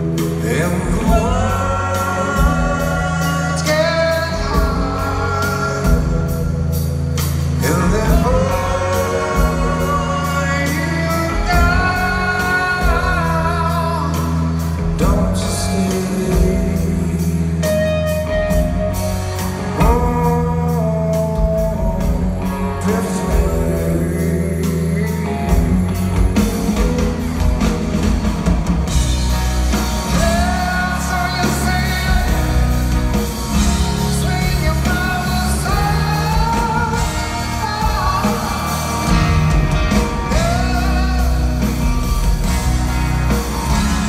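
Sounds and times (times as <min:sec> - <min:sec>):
man singing: 0:00.0 - 0:28.2, 0:28.9 - 0:44.0
live rock band: 0:00.0 - 0:44.0.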